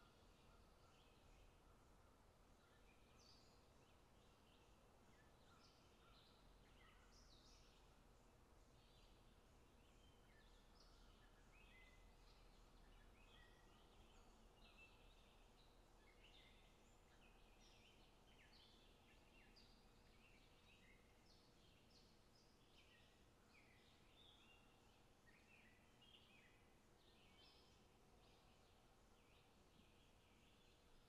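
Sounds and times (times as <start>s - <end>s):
faint birdsong chirps: 0.0s - 31.0s.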